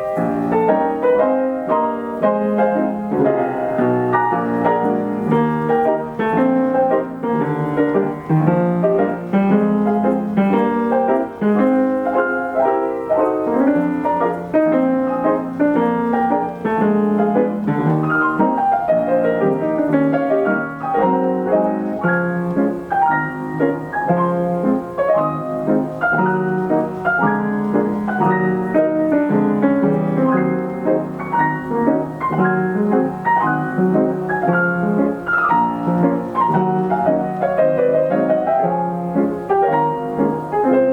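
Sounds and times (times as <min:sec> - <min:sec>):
player piano playing song medley: 0:00.0 - 0:40.9.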